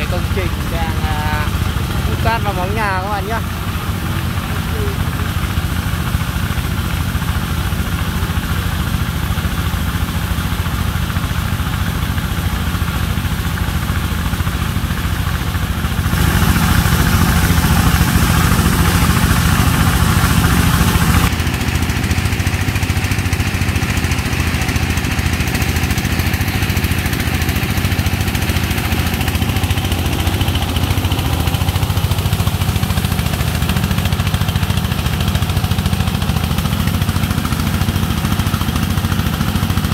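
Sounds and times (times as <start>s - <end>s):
pump engine running: 0.0s - 39.9s
water gushing from hose: 0.0s - 39.9s.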